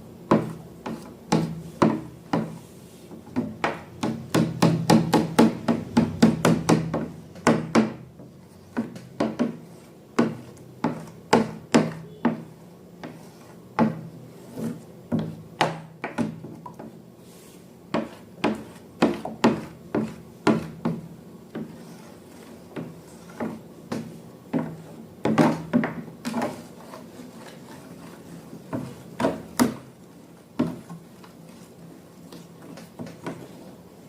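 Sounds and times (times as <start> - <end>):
sharp taps and scrapes: 0.3 - 4.2, 5.2 - 16.9, 17.9 - 29.8.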